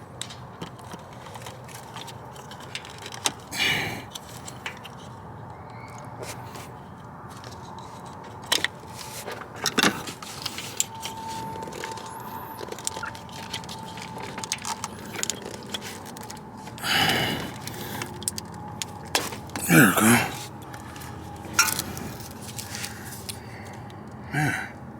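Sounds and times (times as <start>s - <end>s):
metal tools clicking and scraping: 0.6s - 5.1s, 7.4s - 24.0s.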